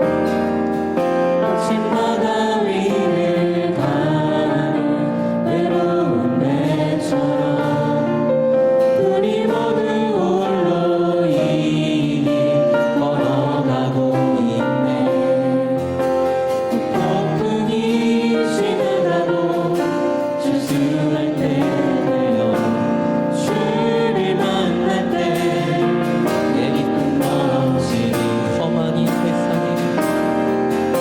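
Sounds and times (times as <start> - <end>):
group singing in unison: 0.0 - 31.0
musical backing: 0.0 - 31.0.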